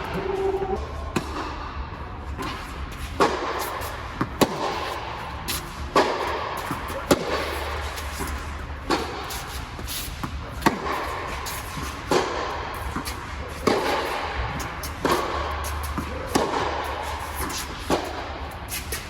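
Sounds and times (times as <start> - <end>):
tennis ball hit with racquets: 0.0 - 1.7, 2.4 - 19.0.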